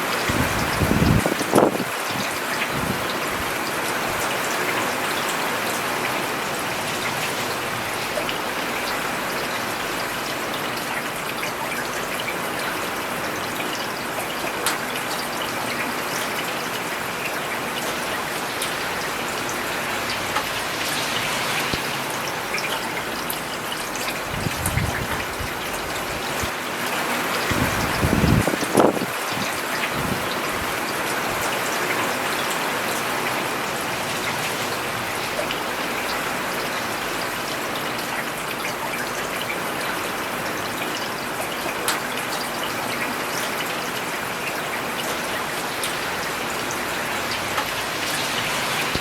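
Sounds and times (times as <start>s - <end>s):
rain on paved road: 0.0s - 49.0s.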